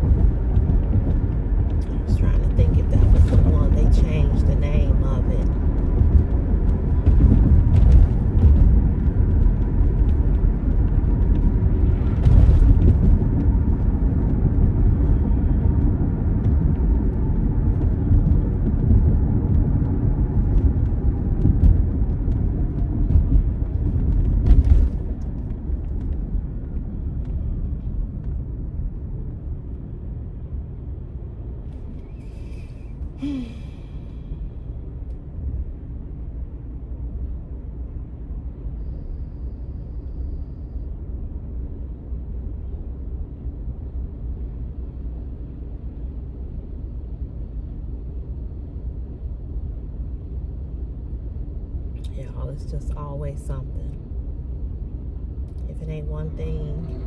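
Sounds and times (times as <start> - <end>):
car interior road rumble: 0.0 - 57.0.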